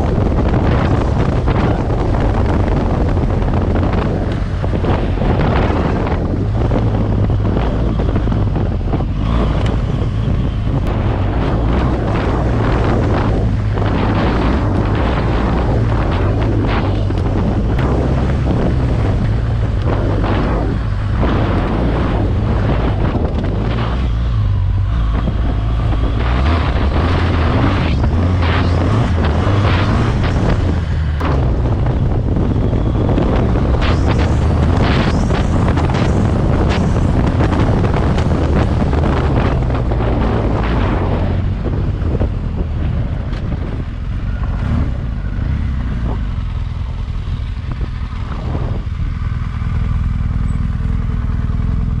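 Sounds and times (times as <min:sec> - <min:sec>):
motorcycle engine running: 0:00.0 - 0:52.0
wind buffeting microphone: 0:00.0 - 0:52.0.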